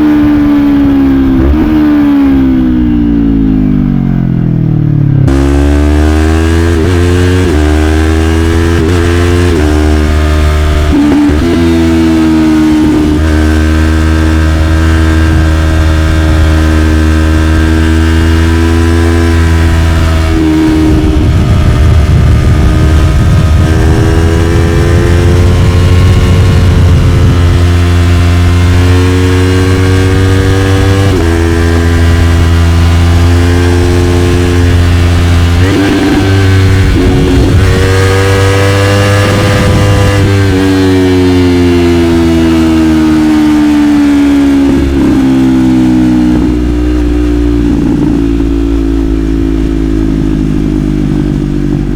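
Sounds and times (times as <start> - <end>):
motorcycle engine revving through gears: 0.0 - 51.9.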